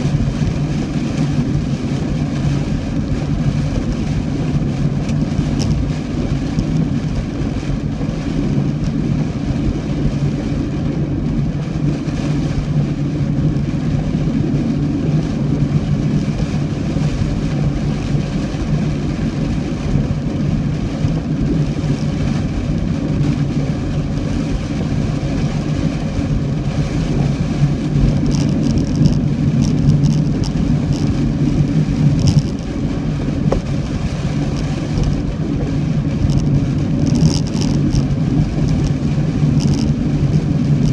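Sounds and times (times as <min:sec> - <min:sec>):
car engine and road drone: 0:00.0 - 0:40.9
rain hissing: 0:00.0 - 0:40.9.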